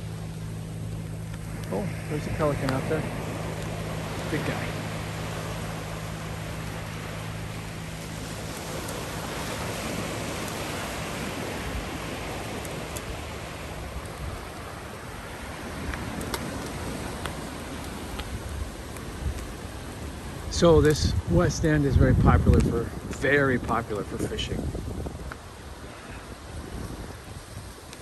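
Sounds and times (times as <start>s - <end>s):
low hum: 0.0s - 27.6s
wind on microphone: 0.0s - 28.0s.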